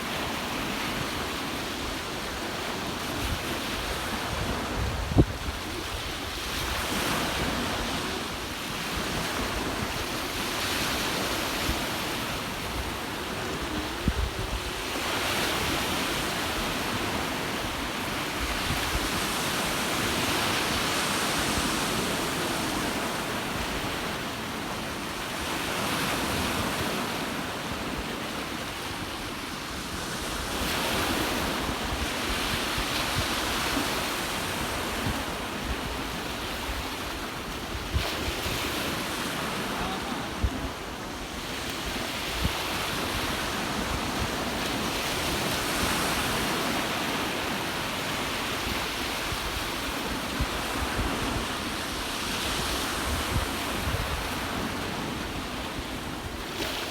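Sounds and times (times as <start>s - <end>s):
ocean waves washing on shore: 0.0s - 56.9s
wind gusting on microphone: 0.7s - 24.2s, 29.4s - 47.6s, 48.3s - 56.4s.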